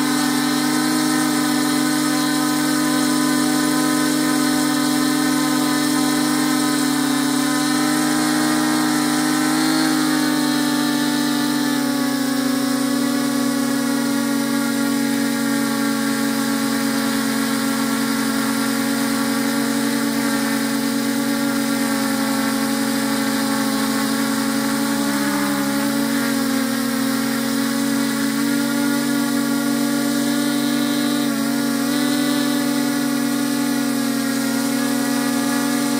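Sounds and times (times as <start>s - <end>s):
drone propellers whining: 0.0s - 35.9s.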